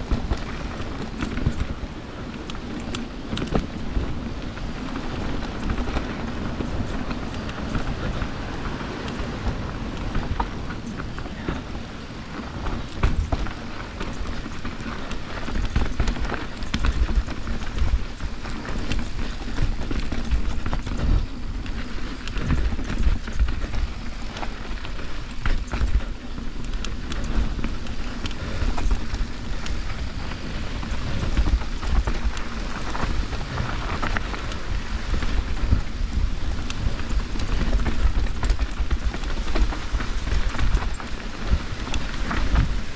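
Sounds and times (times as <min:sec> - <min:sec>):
bike frame and chain rattling: 0:00.0 - 0:42.9
bike tyres rolling over dirt: 0:00.0 - 0:42.9
wind rumble on microphone: 0:00.0 - 0:42.9.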